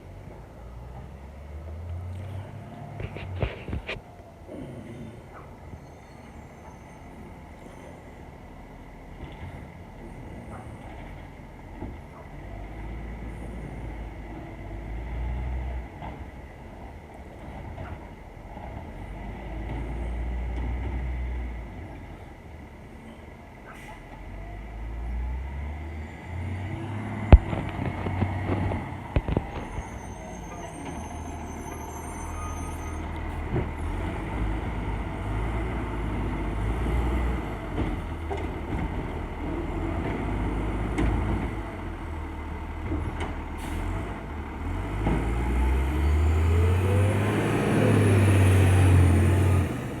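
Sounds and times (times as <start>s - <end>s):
garbage truck diesel engine: 0.0s - 50.0s.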